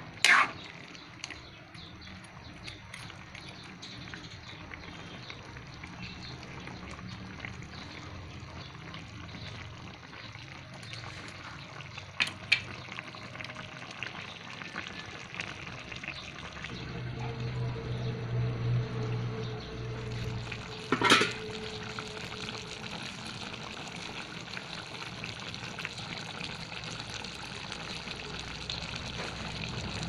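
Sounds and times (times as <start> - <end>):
sauce bubbling in pan: 0.0 - 30.0.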